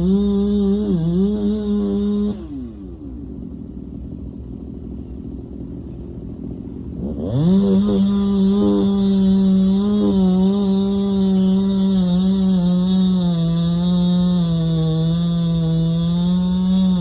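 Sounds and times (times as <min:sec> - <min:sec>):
chainsaw revving and idling: 0:00.0 - 0:17.0.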